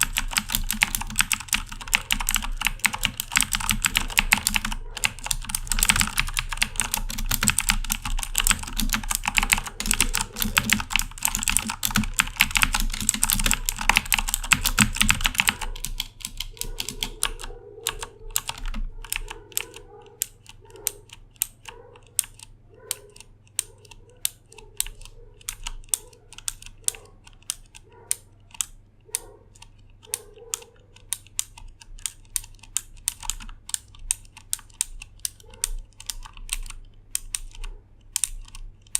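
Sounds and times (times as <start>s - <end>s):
clicky mechanical keyboard typing: 0.0s - 38.9s.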